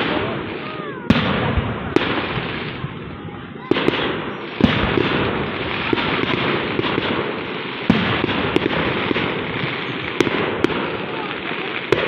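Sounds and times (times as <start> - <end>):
firework bang: 0.0 - 12.0
fireworks crackling and popping: 0.0 - 12.0.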